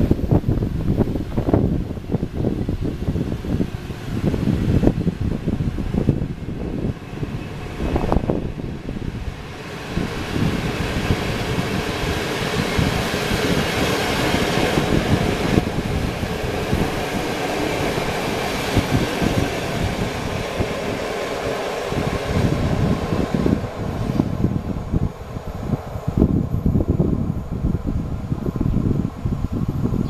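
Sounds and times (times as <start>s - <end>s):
train coaches rolling on rails: 0.0s - 29.2s
wind buffeting microphone: 0.0s - 30.0s.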